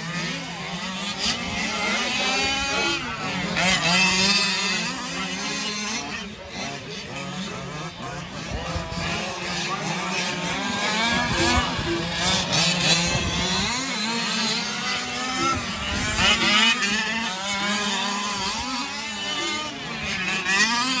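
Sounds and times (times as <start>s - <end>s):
rc car engines revving: 0.0s - 21.0s.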